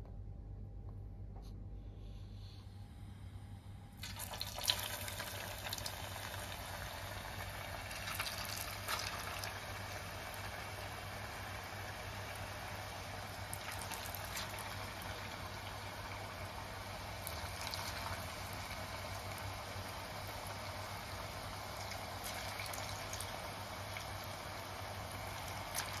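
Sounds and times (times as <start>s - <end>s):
low steady hum: 0.0s - 26.0s
oil sizzling and bubbling: 4.0s - 26.0s.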